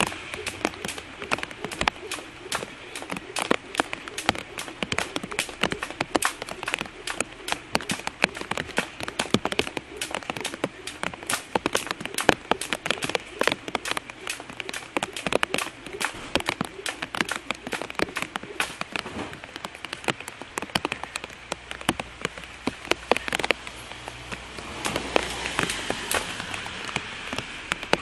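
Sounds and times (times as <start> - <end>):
rain falling: 0.0 - 28.0
raindrops hitting close surface: 0.0 - 28.0.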